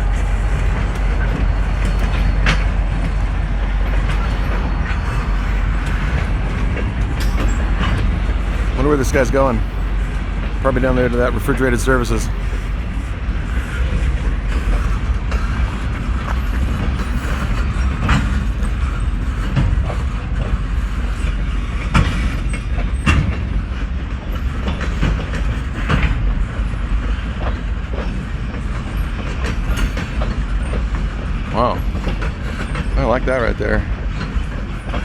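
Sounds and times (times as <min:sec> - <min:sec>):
freight train rumbling past: 0:00.0 - 0:35.0
train wheels clacking and clanking: 0:00.0 - 0:35.0.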